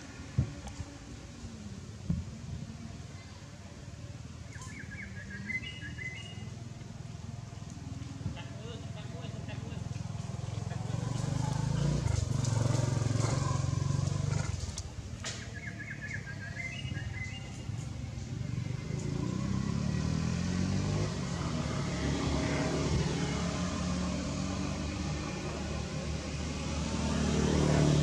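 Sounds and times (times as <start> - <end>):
passing traffic engines: 0.0 - 28.0.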